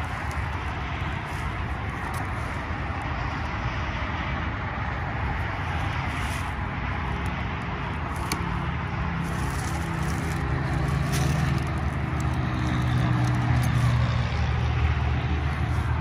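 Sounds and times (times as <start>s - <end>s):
road traffic noise: 0.0s - 16.0s
vehicle engine passing: 0.0s - 16.0s.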